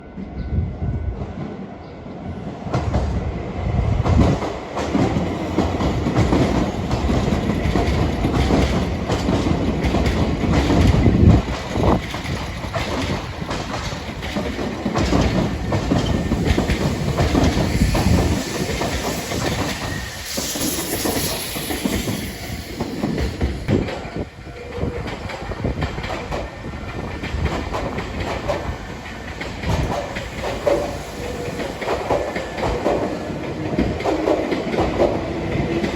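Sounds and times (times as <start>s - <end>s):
train wheels clattering over rail joints: 4.0s - 35.9s.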